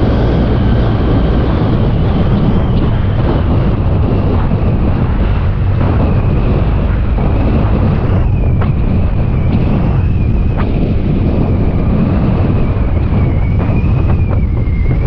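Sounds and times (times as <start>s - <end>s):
scooter engine whine: 0.0s - 15.0s
wind buffeting microphone: 0.0s - 15.0s.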